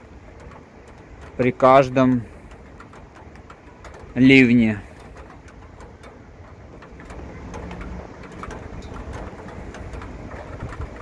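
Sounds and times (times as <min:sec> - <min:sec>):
drops ticking: 0:00.0 - 0:11.0
steady rain hiss: 0:00.0 - 0:11.0.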